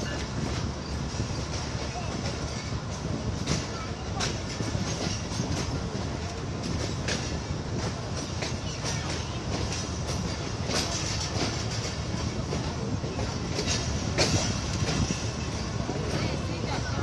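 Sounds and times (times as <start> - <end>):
train rumbling along track: 0.0 - 17.0
wheels clacking over rails: 0.0 - 17.0.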